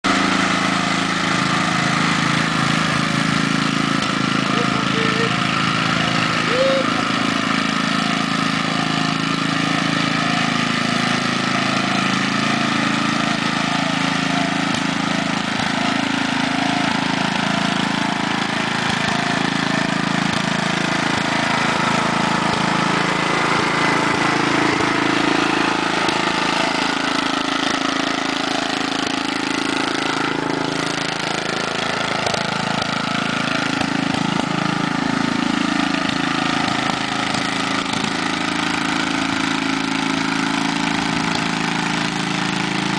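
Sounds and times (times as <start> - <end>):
rototiller engine running: 0.0 - 42.9.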